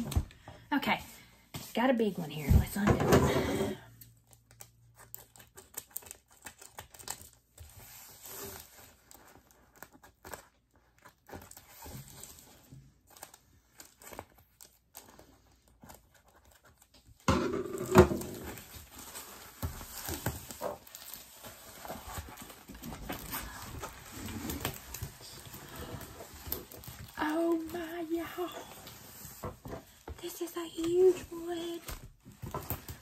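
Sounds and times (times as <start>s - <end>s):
tape tearing and wrapping crinkling: 4.1s - 33.0s.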